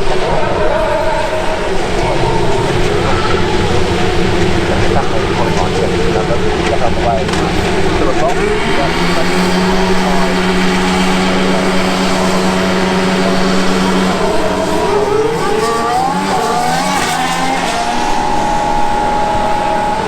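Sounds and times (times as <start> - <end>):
racing car engines accelerating: 0.0 - 20.0.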